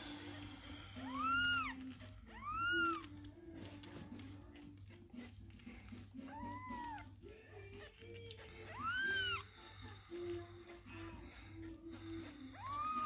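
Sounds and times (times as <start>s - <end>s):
kitten mewing: 0.1s - 13.0s.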